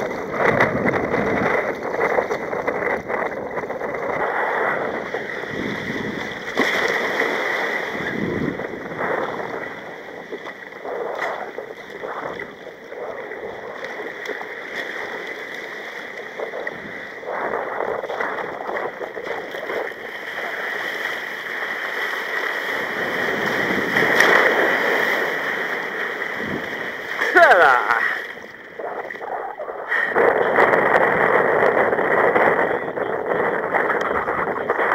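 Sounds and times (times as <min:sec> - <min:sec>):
sea water splashing against kayak: 0:00.0 - 0:34.9.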